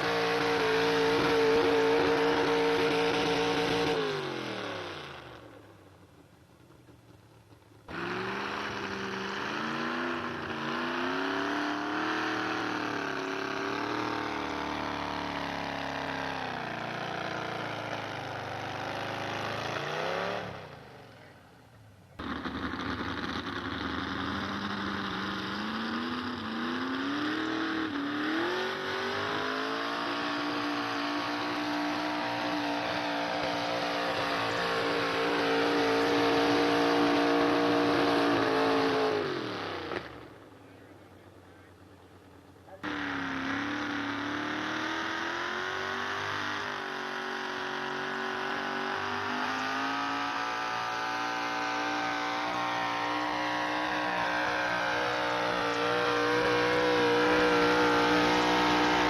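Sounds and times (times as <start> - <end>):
engine revving high: 0.0 - 5.6, 7.9 - 21.4, 22.2 - 41.8, 42.7 - 59.0
truck engine running hard: 0.0 - 59.0.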